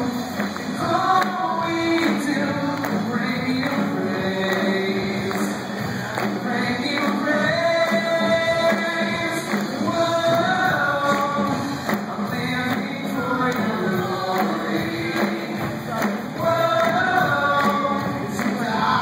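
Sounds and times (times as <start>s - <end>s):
keyboards: 0.0s - 19.0s
singers: 0.0s - 19.0s
steady drum beat: 0.0s - 19.0s.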